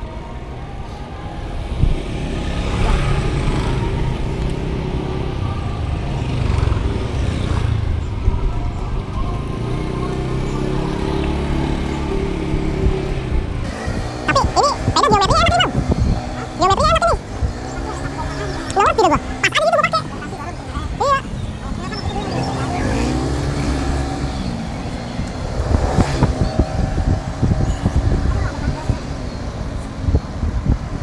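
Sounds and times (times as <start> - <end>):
low traffic rumble: 0.0 - 31.0
motor vehicles passing: 1.4 - 31.0.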